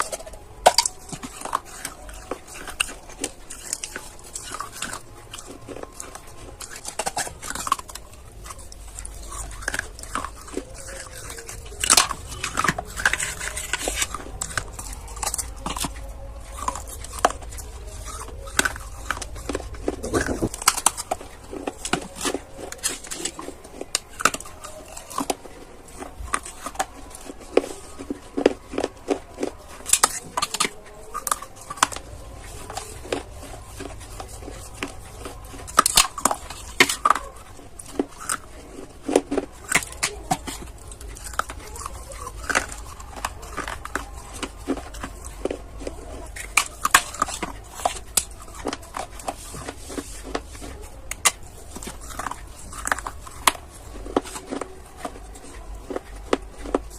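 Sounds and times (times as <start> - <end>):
crunching and chewing clay: 0.0 - 56.9.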